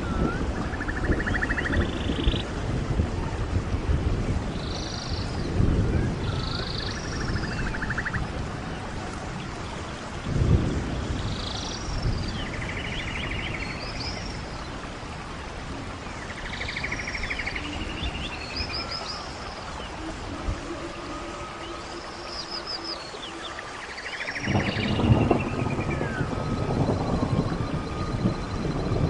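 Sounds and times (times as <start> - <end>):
birds chirping and trilling: 0.0 - 2.5, 4.5 - 15.0, 15.9 - 29.0
low rumbling wind: 0.0 - 29.0.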